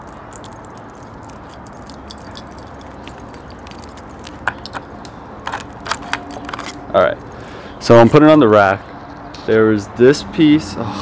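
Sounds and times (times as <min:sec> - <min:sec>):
light jingling rattles: 0:00.0 - 0:09.7.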